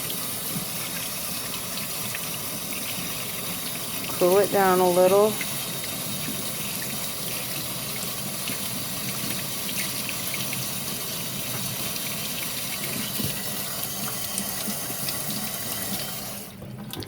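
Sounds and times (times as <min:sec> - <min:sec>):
faucet water running and splashing: 0:00.0 - 0:17.0.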